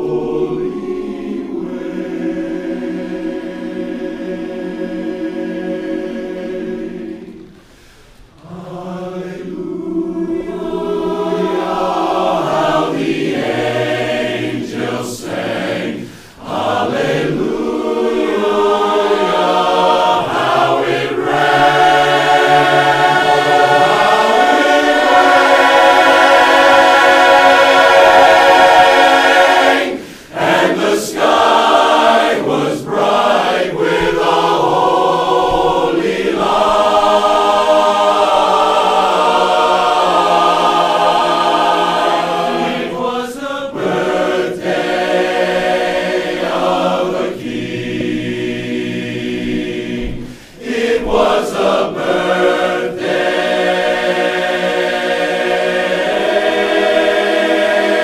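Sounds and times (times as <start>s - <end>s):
men's chorus singing a cappella: 0.0s - 58.0s.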